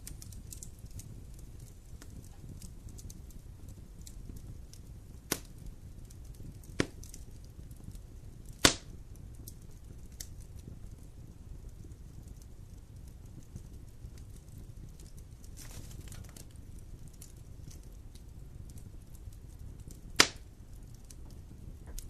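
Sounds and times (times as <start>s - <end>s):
burning wood sharp pops: 0.0s - 22.0s
campfire rumble and crackles: 0.0s - 22.0s.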